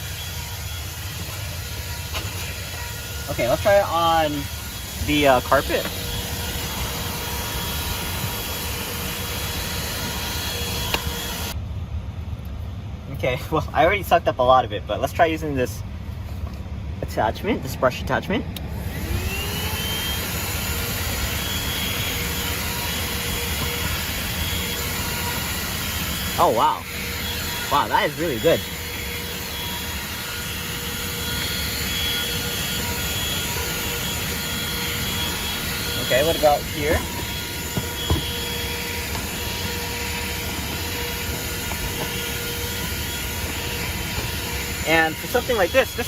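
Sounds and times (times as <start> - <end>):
handheld vacuum motor whine: 0.0 - 11.6, 18.6 - 46.0.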